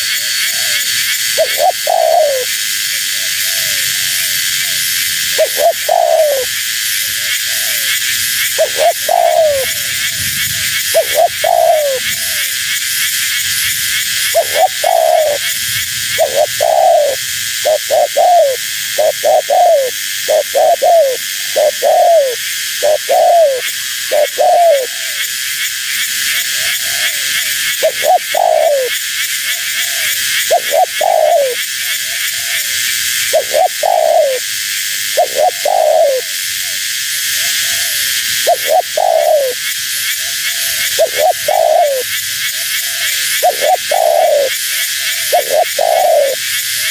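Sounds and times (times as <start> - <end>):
dove cooing: 0.0 - 25.6, 26.2 - 46.9
steady high hiss: 0.0 - 46.9.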